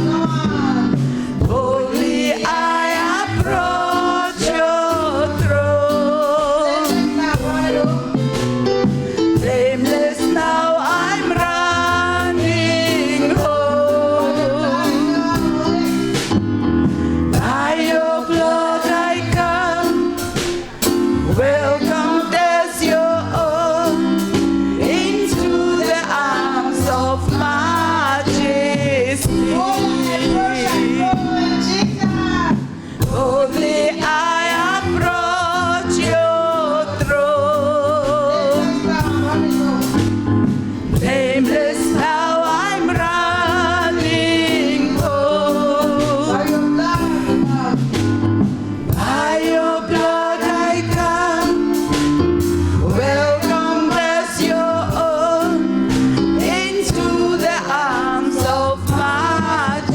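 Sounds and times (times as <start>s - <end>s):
drum hits: 0.0s - 37.4s, 38.1s - 59.9s
band playing chords: 0.0s - 59.9s
person singing gospel: 0.0s - 59.9s.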